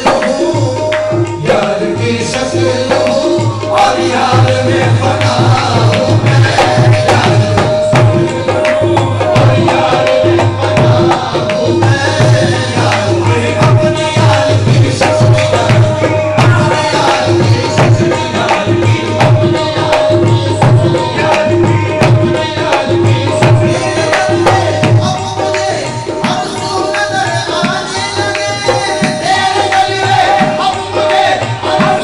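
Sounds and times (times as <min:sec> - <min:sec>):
harmonium notes: 0:00.0 - 0:32.0
tabla beating: 0:00.0 - 0:32.0.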